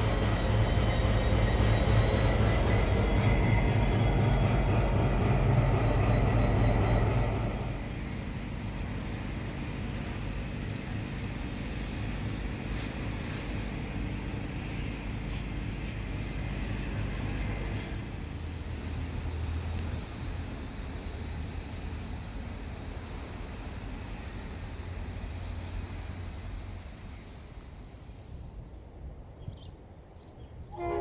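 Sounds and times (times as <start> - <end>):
diesel train engine drone: 0.0 - 31.0.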